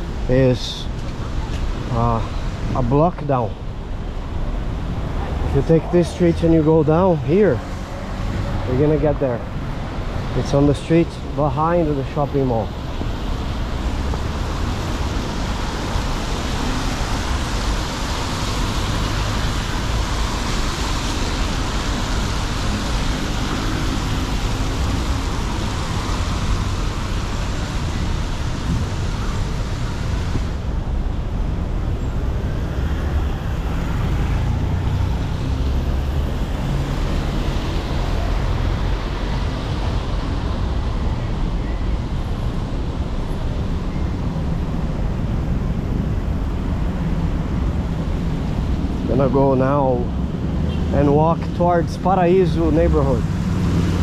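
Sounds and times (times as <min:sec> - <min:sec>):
car engines rumbling: 0:00.0 - 0:54.0
tyres hissing on wet road: 0:04.6 - 0:30.9, 0:31.6 - 0:41.0, 0:42.7 - 0:54.0.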